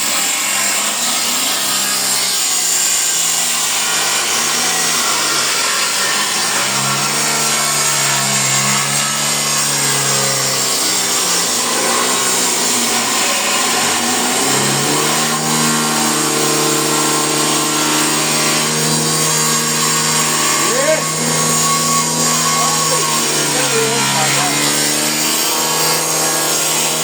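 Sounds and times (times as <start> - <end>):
power saw cutting wood: 0.0 - 27.0.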